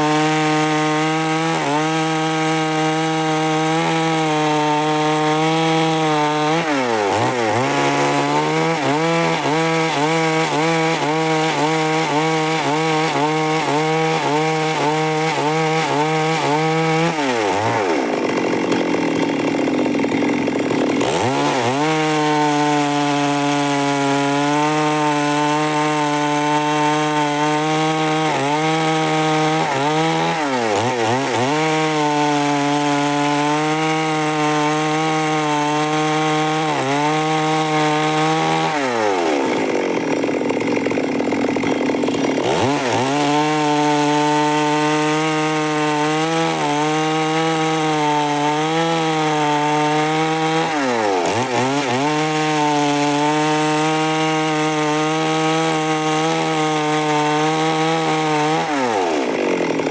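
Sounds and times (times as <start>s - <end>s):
chainsaw sawing through wood: 0.0s - 59.9s.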